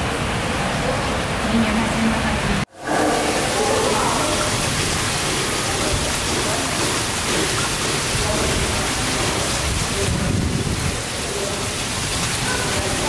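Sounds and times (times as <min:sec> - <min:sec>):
heavy rain on paving: 0:00.0 - 0:13.0.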